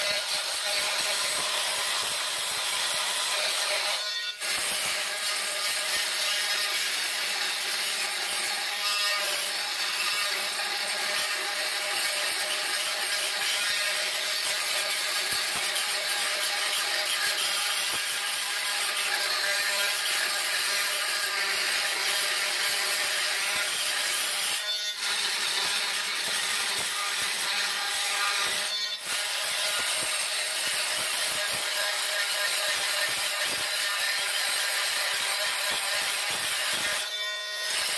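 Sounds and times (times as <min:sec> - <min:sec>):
multi-tool grinding grout: 0:00.0 - 0:37.9.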